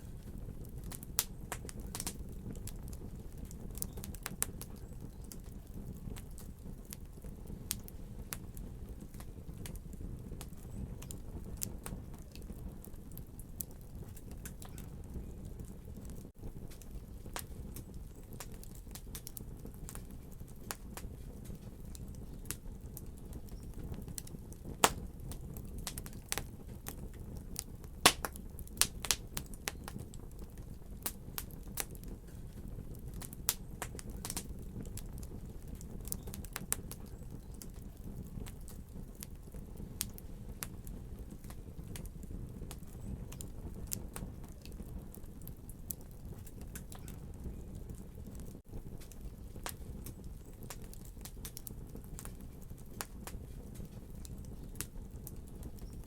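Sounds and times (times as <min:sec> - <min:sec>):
low rumble of burning: 0:00.0 - 0:56.0
wood fire popping and snapping: 0:00.0 - 0:56.0.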